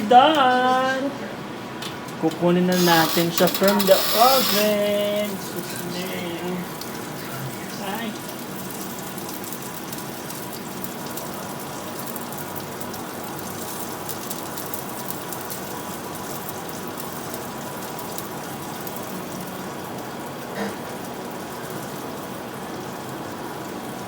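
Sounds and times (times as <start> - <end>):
pork sizzling and crackling: 2.7 - 24.0.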